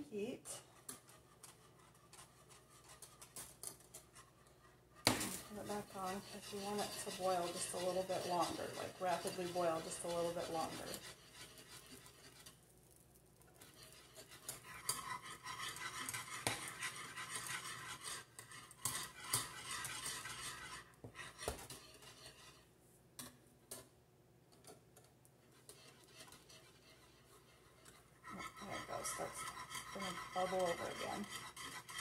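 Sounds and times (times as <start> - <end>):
wire whisk scraping a saucepan: 0.1 - 23.9, 24.6 - 32.0.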